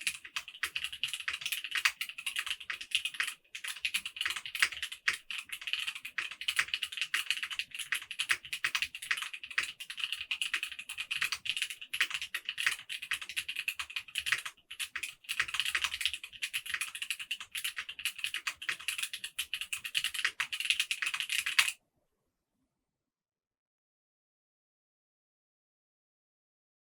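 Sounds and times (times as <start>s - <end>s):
fast typing on mechanical keyboard: 0.0s - 21.8s.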